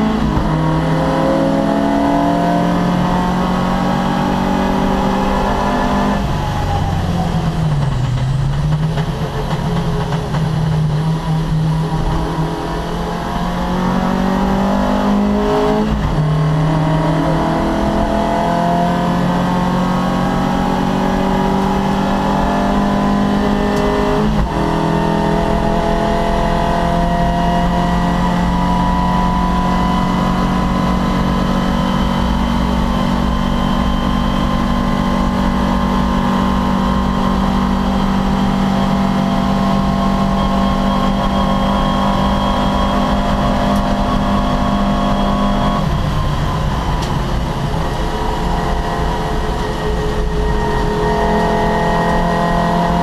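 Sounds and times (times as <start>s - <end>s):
race car engine at high revs: 0.0s - 53.0s.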